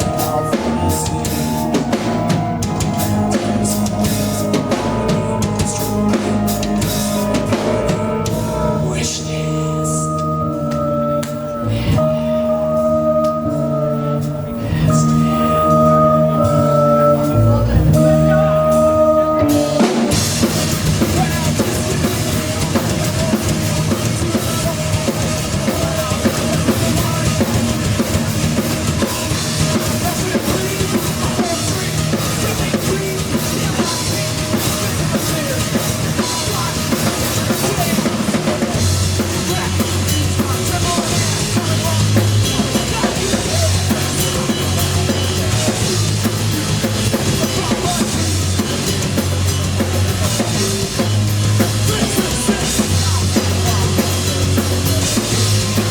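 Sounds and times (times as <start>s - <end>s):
held keyboard chord: 0.0s - 55.9s
live rock band playing: 0.0s - 55.9s.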